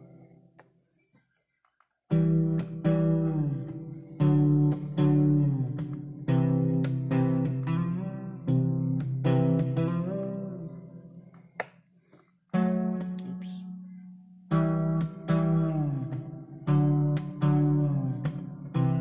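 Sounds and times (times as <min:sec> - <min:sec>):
fretless guitar plucked notes: 0:00.0 - 0:00.6, 0:02.1 - 0:11.7, 0:12.5 - 0:19.0.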